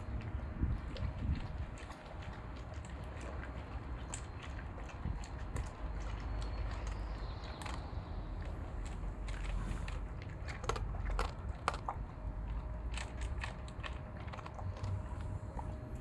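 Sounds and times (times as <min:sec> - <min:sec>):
dog chewing food: 0:00.0 - 0:16.0.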